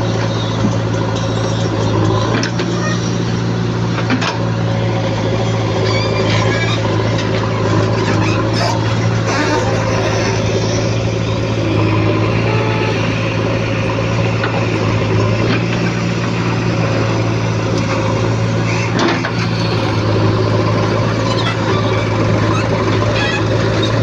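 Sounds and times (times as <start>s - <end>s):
heavy diesel engine humming: 0.0s - 24.0s.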